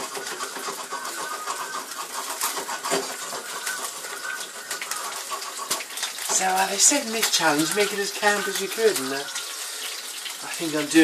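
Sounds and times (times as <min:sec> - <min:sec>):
sausages sizzling in oil: 0:00.0 - 0:11.0.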